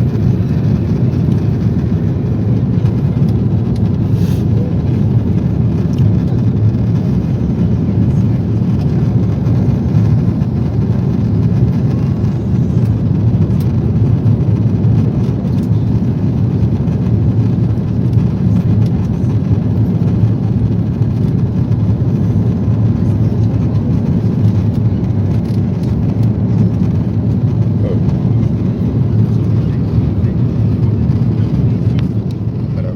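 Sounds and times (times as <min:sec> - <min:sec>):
airplane cabin rumble: 0:00.0 - 0:32.9.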